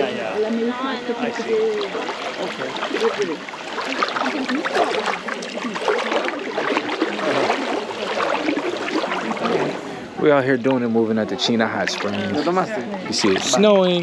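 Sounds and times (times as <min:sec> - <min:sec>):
people talking in background: 0:00.0 - 0:14.0
water splashing and sloshing: 0:00.0 - 0:14.0.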